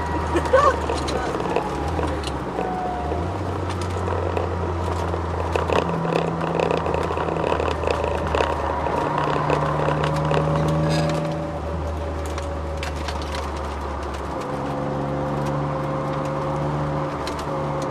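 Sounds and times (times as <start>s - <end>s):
car engine drone with whine: 0.0s - 17.9s.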